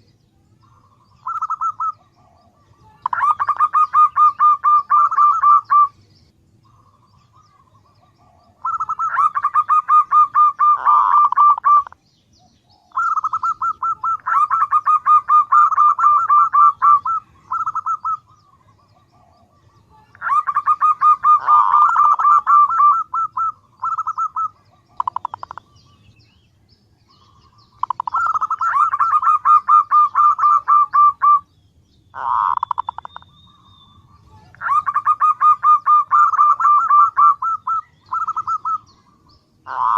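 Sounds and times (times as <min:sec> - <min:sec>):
dove cooing: 0:00.6 - 0:06.0, 0:06.6 - 0:12.0, 0:12.6 - 0:26.0, 0:27.1 - 0:31.5, 0:32.2 - 0:39.9.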